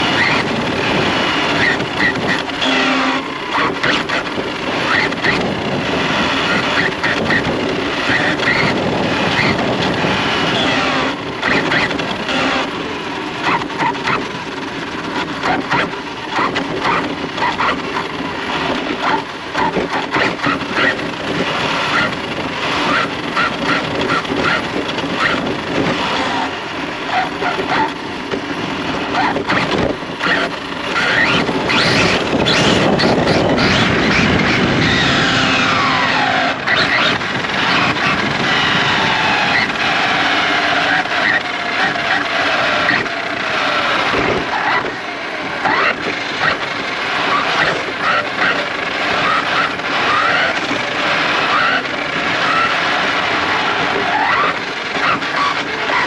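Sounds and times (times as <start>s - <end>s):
electric toy car motor whining: 0.0s - 56.0s.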